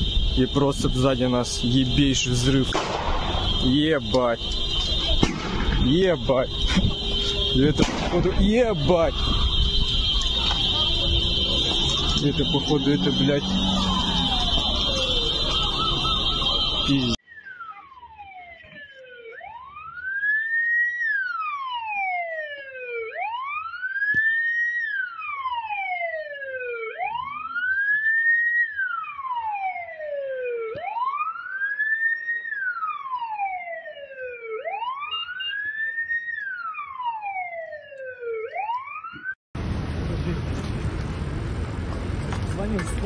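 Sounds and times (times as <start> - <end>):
emergency siren wailing: 0.0 - 39.4
faint higher-pitched siren: 0.0 - 39.4.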